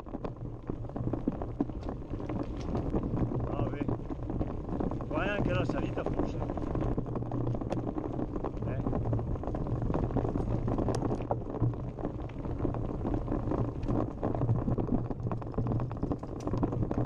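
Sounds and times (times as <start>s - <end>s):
bike rattling and knocking: 0.0s - 17.0s
bike tyres rumbling on dirt: 0.0s - 17.0s.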